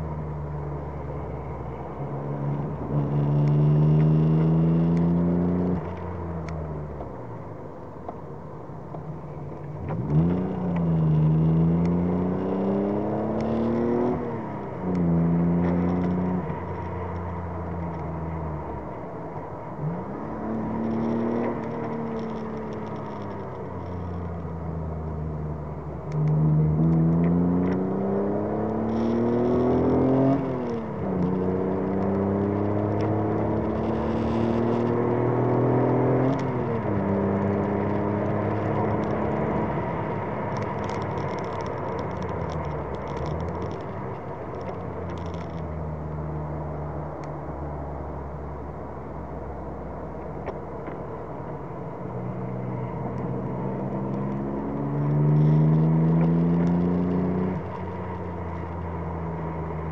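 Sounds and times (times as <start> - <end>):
car engine revving through gears: 0.3 - 7.0, 9.8 - 18.7, 19.6 - 49.3, 50.4 - 59.9.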